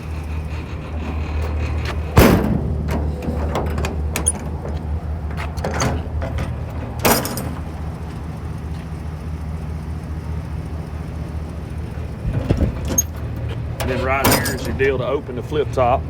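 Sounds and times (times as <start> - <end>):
truck engine idling: 0.0 - 16.0
metal compartment doors clunking: 0.1 - 8.7, 11.5 - 16.0.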